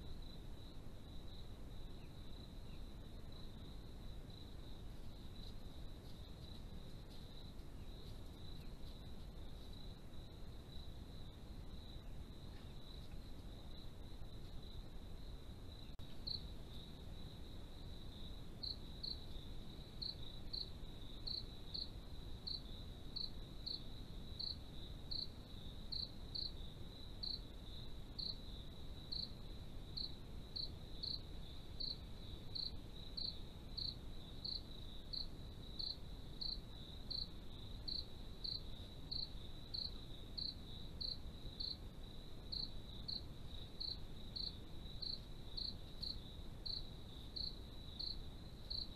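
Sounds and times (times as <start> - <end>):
crickets trilling and chirping: 0.0 - 48.9
low steady hiss: 0.0 - 48.9.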